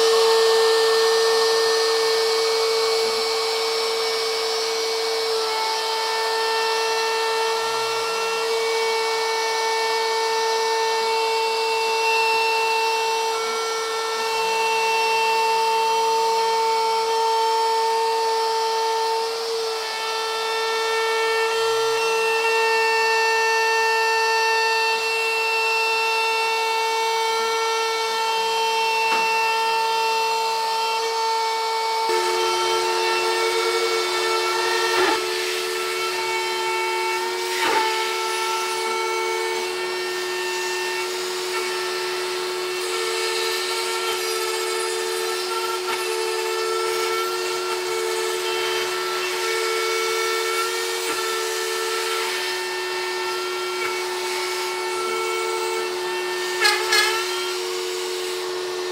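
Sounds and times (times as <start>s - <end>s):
router spindle whining: 0.0s - 58.9s.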